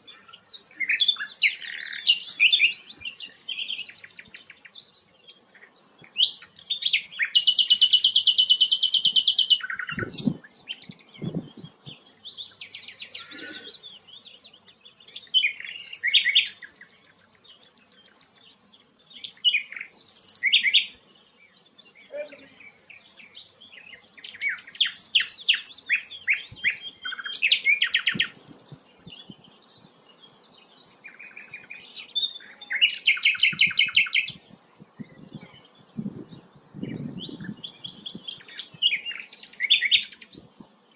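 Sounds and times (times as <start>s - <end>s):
flycatcher chirping: 0.0s - 40.9s.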